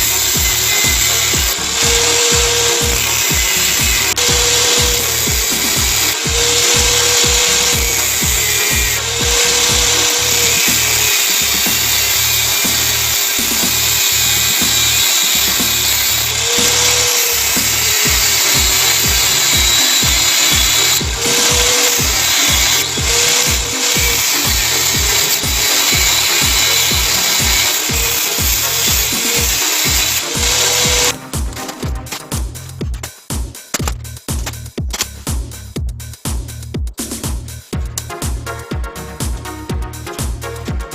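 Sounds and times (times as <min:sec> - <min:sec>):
tool working steel: 0:00.0 - 0:33.1
background music with steady beat: 0:00.0 - 0:40.9.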